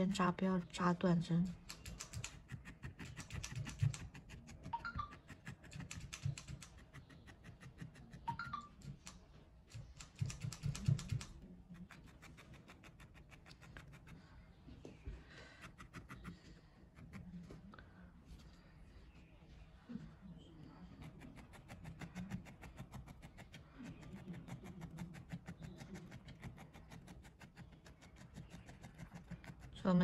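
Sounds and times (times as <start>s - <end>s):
felting needle ticking: 0.0s - 14.3s, 15.4s - 17.4s, 20.9s - 30.0s.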